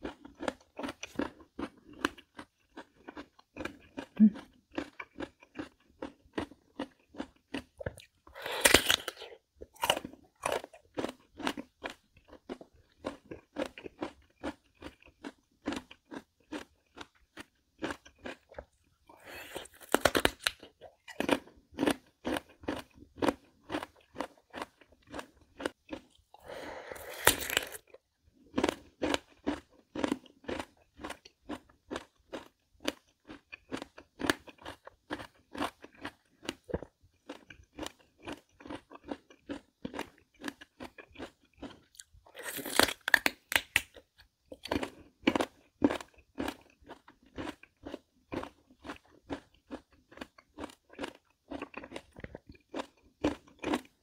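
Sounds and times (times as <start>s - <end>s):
crunchy chewing of melon: 0.0s - 54.0s.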